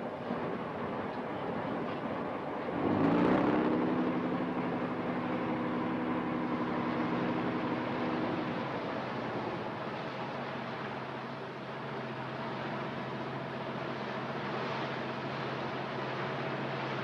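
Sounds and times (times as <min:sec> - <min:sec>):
diesel engine running: 0:01.4 - 0:17.0.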